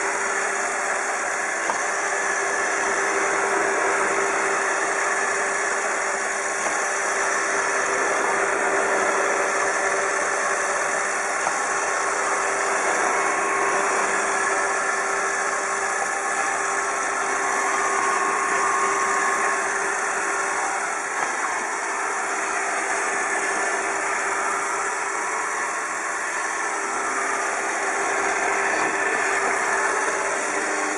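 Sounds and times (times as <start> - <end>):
robot vacuum whirring hum: 0.0 - 30.9.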